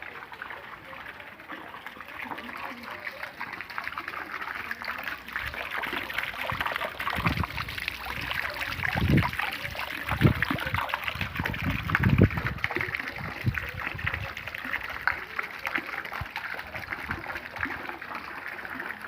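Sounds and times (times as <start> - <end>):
rainwater trickling: 0.0 - 19.0.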